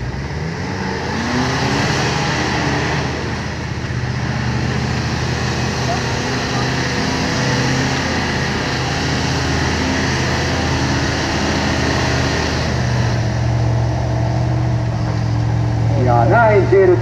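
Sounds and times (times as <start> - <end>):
off-road car engine under load: 0.0 - 17.0.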